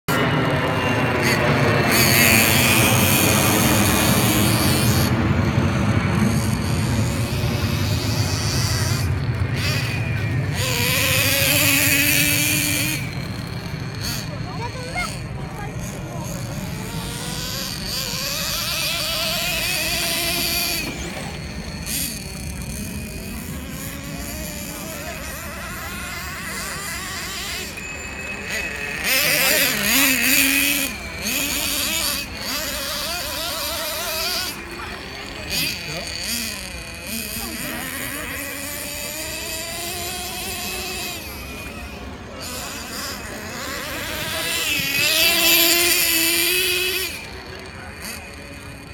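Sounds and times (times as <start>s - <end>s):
model motorcycle motor whining: 0.0s - 48.9s
low outdoor rumble: 0.1s - 48.9s.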